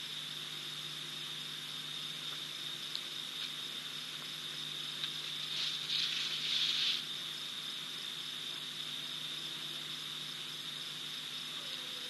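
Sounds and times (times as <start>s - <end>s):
crickets trilling: 0.0s - 12.0s
loud hiss: 0.0s - 12.0s.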